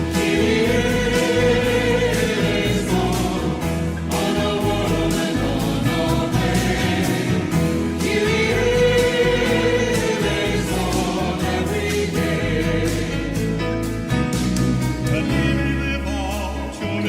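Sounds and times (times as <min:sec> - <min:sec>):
choir singing sacred music: 0:00.0 - 0:13.8
instrumental accompaniment: 0:00.0 - 0:17.0.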